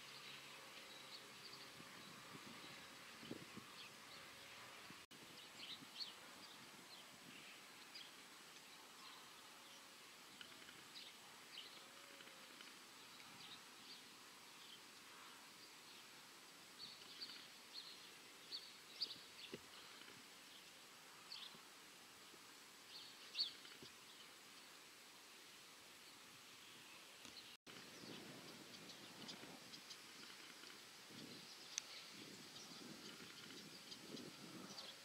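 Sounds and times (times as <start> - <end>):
small birds chirping: 0.0 - 21.8, 22.8 - 24.8, 25.4 - 35.0.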